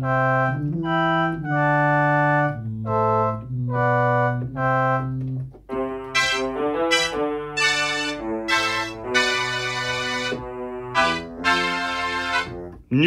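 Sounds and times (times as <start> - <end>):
keyboard held notes: 0.0 - 12.8
bright keyboard sound: 0.0 - 13.0.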